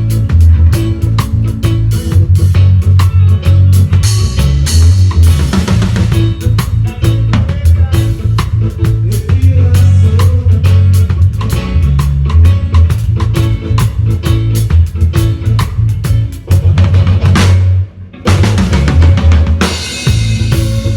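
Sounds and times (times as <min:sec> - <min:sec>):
live band playing: 0:00.0 - 0:20.9.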